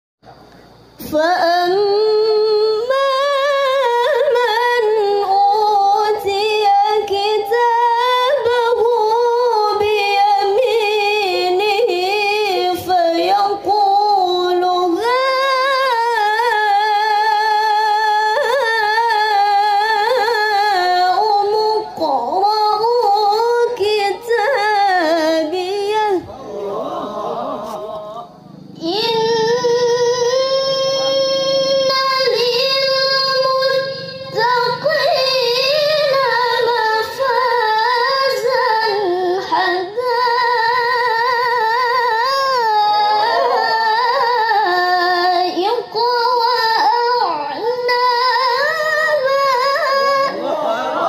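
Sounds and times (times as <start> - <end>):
woman reciting melodically: 0.7 - 51.0.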